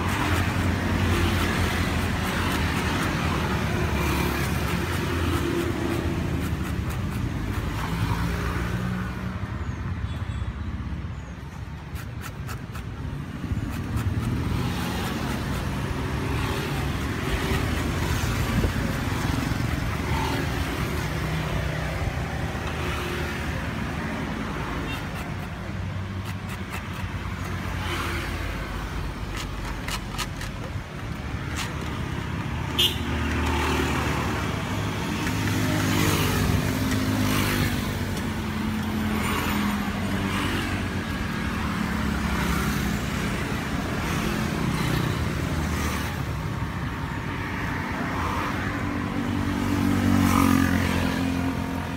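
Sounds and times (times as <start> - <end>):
vehicles passing: 0.0 - 51.9.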